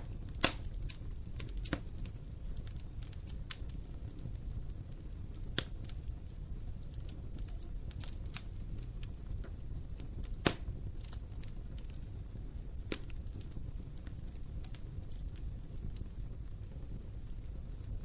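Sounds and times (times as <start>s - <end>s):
fire ticking and popping: 0.0s - 18.0s
low rumble of flames: 0.0s - 18.0s.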